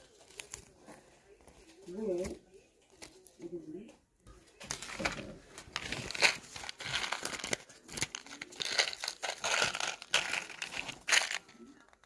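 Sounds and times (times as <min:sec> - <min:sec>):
paper crinkling and rustling: 0:00.0 - 0:03.4, 0:04.6 - 0:12.0.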